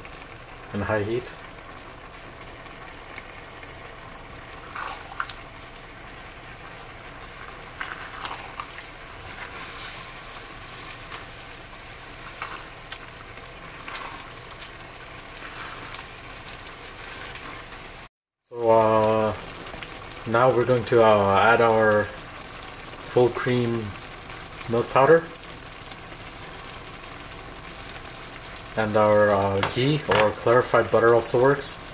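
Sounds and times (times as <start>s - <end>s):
sauce bubbling and hissing: 0.0s - 31.9s.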